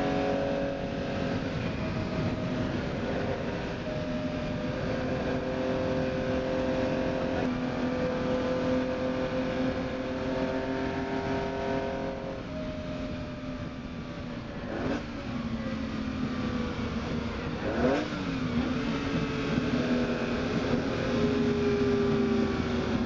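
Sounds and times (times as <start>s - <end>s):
car engine running hard: 0.0s - 23.0s.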